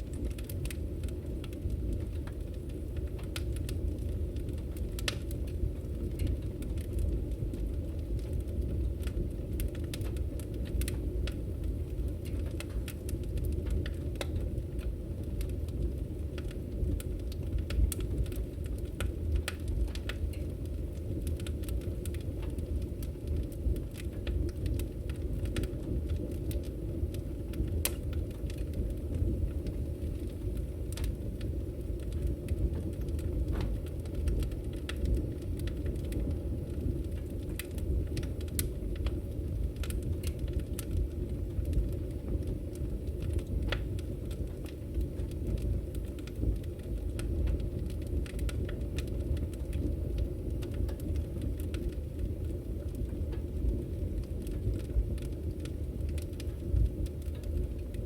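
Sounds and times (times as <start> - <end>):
burning wood crackling and popping: 0.0 - 58.0
low rumble of fire: 0.0 - 58.0.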